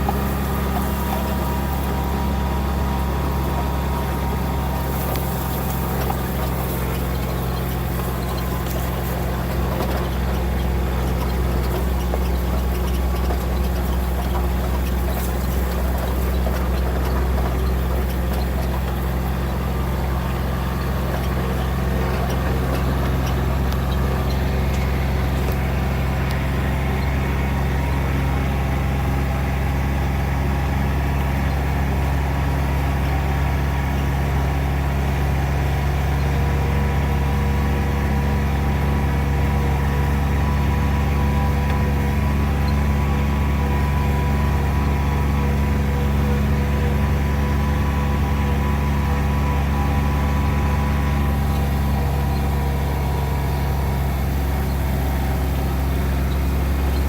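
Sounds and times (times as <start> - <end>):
vehicle engine running steadily: 0.0 - 57.0.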